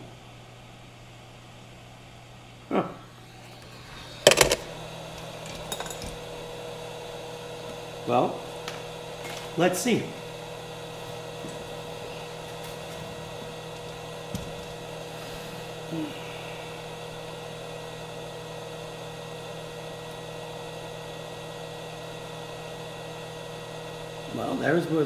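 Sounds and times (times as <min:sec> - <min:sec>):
electrical hum with hiss: 0:00.0 - 0:25.0.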